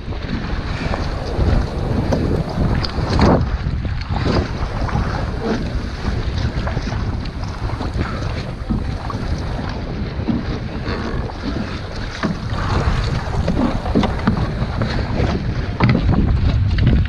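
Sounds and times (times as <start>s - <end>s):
water splashing against boat hull: 0.0s - 17.0s
wind buffeting microphone: 0.0s - 17.0s.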